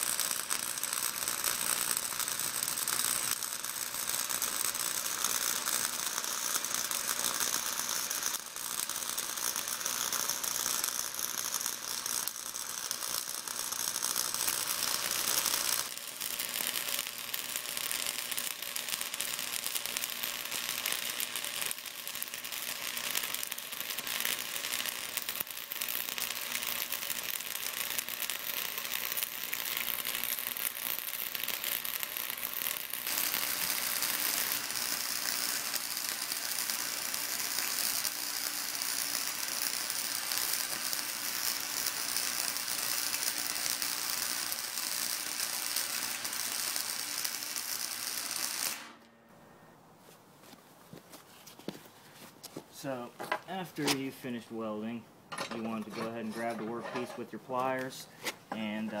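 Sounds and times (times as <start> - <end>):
welding arc crackling and hissing: 0.0 - 49.1, 51.4 - 55.0, 55.6 - 59.0.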